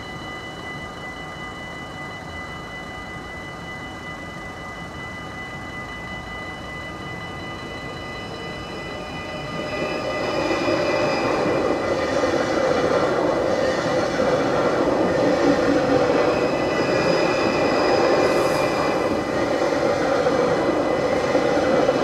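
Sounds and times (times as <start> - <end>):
electric train running: 0.0 - 22.0.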